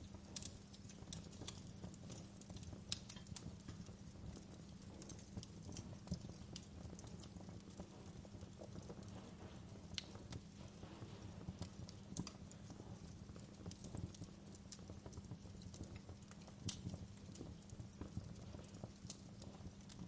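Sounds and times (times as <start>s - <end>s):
low steady fire rumble: 0.0s - 20.0s
wood fire popping and snapping: 0.0s - 20.0s.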